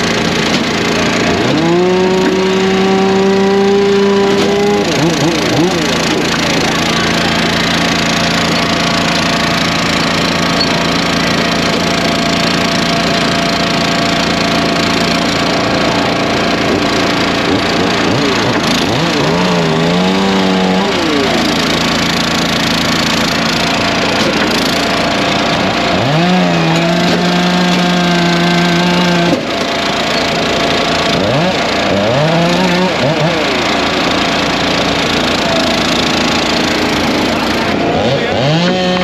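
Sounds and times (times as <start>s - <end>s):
din of small engines: 0.0s - 39.0s
small gasoline engine revving: 0.0s - 39.0s.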